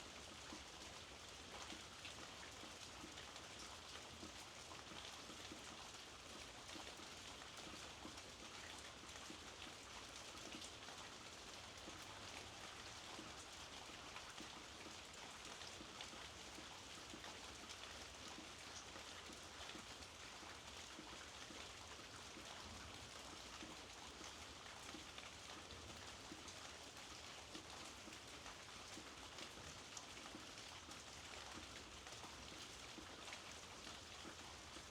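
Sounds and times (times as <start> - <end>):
faint rainfall patter: 0.0 - 34.9.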